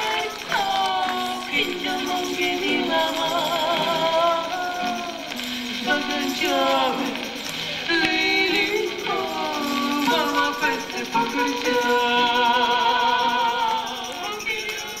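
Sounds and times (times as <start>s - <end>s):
instrumental accompaniment: 0.0s - 15.0s
person singing: 0.0s - 15.0s
tambourine shaken and struck: 0.0s - 15.0s.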